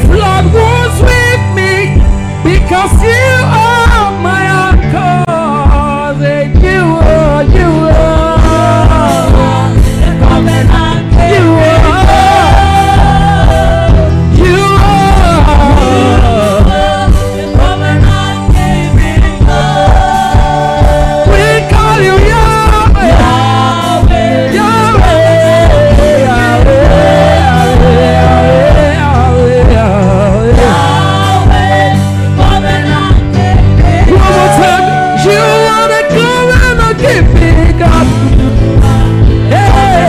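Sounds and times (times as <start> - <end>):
gospel band with drums and keyboard: 0.0 - 40.0
man singing into microphone: 0.0 - 40.0
backing singers: 6.8 - 40.0.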